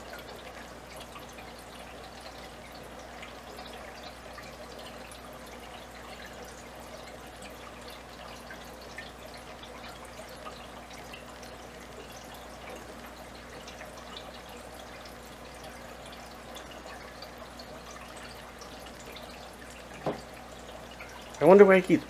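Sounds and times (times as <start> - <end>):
aquarium water trickling: 0.0 - 22.0.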